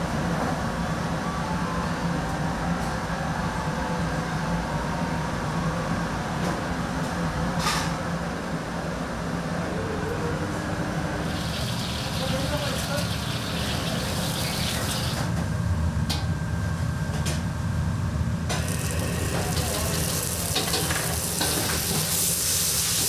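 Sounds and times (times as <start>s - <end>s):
low mechanical hum and rumble: 0.0s - 23.0s.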